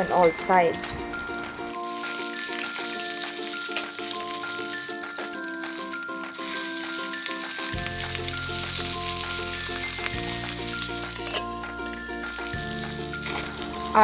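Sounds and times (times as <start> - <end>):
chicken sizzling in hot oil: 0.3 - 14.0.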